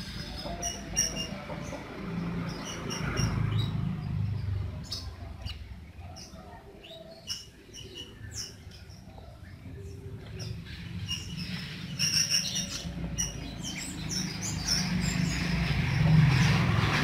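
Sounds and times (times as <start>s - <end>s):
baby bird chirping: 0.0s - 9.3s, 10.4s - 15.5s.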